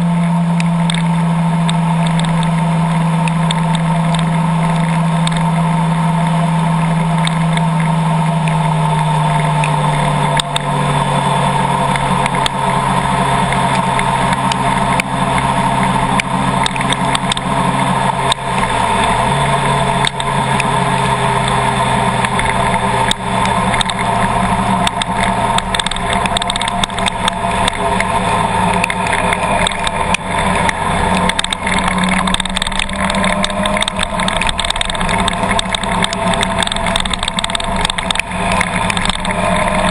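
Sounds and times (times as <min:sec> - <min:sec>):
car engine running: 0:00.0 - 0:39.9
sharp ticks: 0:00.2 - 0:39.9.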